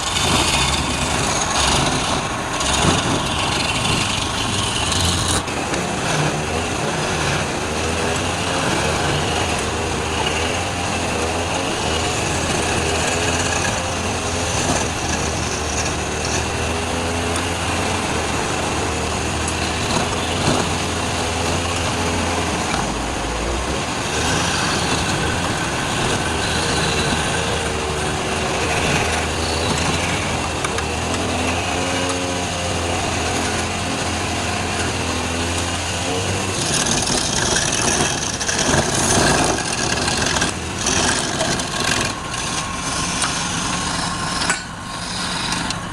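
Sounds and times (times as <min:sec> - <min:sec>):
lathe motor hum: 0:00.0 - 0:45.9
tool cutting spinning wood: 0:00.0 - 0:45.9.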